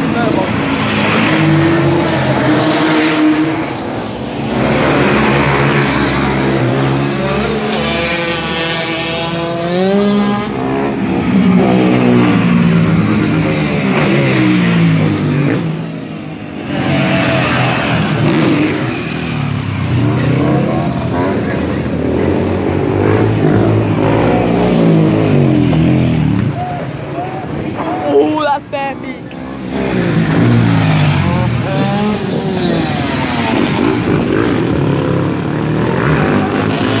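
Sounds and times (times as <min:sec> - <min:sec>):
motorbike engines revving: 0:00.0 - 0:37.0.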